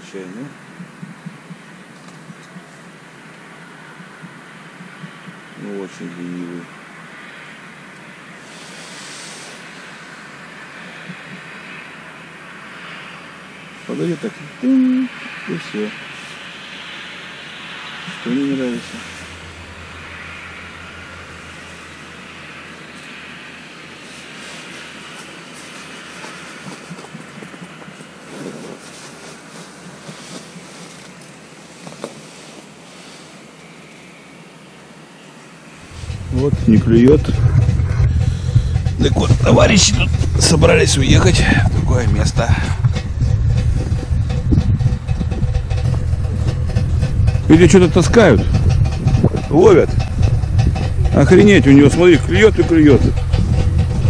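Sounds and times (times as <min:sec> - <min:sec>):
steady hissing noise: 0:00.0 - 0:54.0
steady rushing noise: 0:00.0 - 0:54.0.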